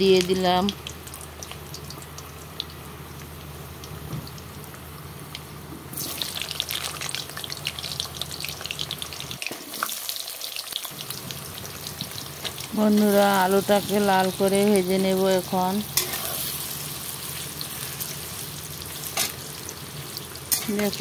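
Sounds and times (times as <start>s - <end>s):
potatoes frying in hot oil: 0.0s - 21.0s.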